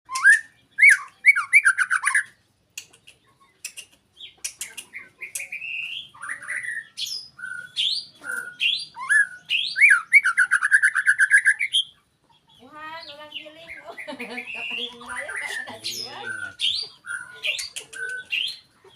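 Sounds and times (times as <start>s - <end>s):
bird singing whistles and trills: 0.1s - 12.0s, 13.0s - 18.7s.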